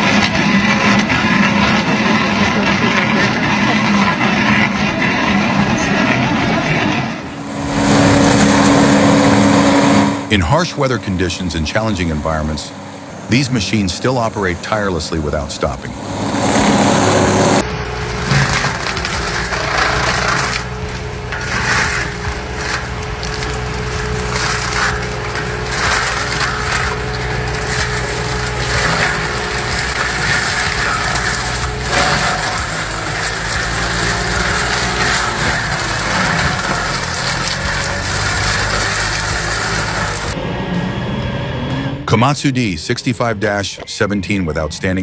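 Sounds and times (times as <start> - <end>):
wood crunching and cracking: 0.0 - 40.4
diesel engine humming: 0.0 - 43.7.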